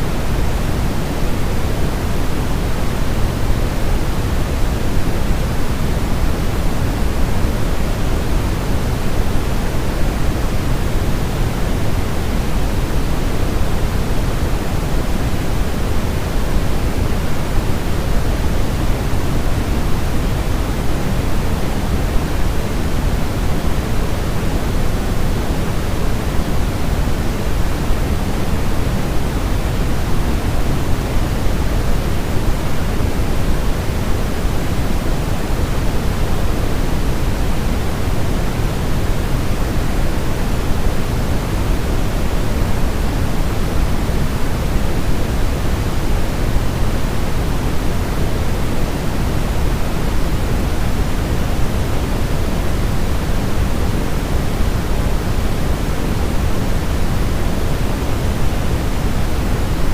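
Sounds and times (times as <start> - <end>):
pink noise: 0.0 - 59.9.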